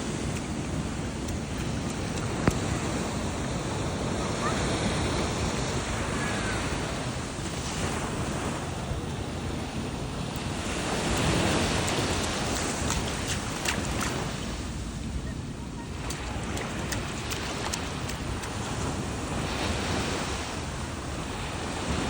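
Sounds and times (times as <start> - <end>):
sea waves washing: 0.0 - 22.0
wind buffeting microphone: 0.0 - 22.0.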